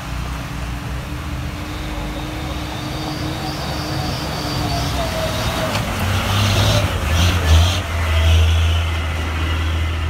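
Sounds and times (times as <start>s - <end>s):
dump truck diesel engine passing: 0.0s - 10.0s.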